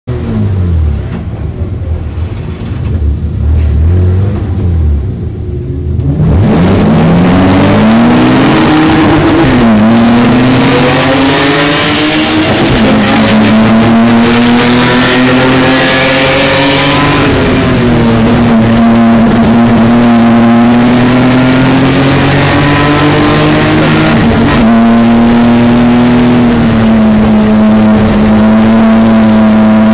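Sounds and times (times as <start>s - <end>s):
race car engine revving: 2.9s - 29.9s.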